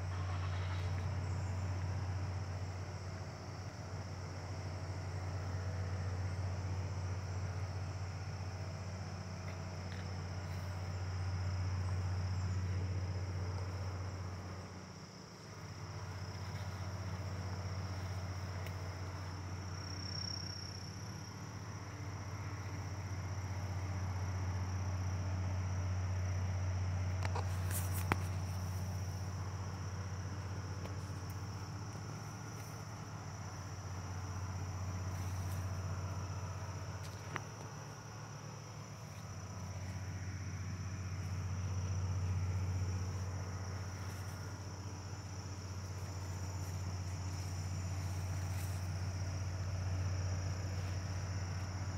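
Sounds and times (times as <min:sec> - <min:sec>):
insect chorus trilling: 0:00.0 - 0:51.9.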